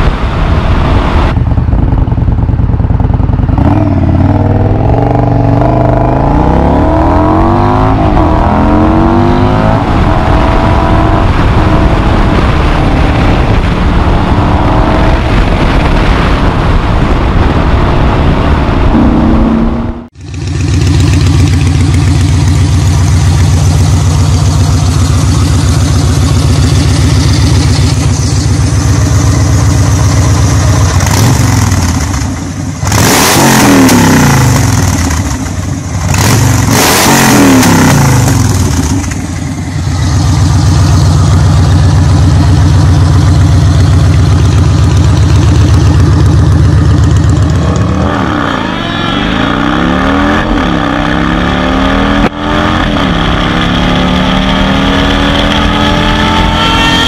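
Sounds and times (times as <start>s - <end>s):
motorcycle engine idling and revving: 0.0s - 57.0s
motorcycle accelerating away: 3.0s - 15.7s, 18.9s - 57.0s.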